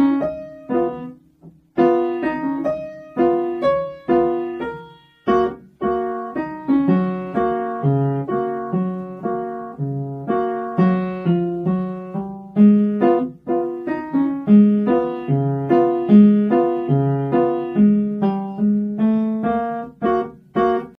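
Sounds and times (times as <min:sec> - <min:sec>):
piano beginner's piece: 0:00.0 - 0:20.9.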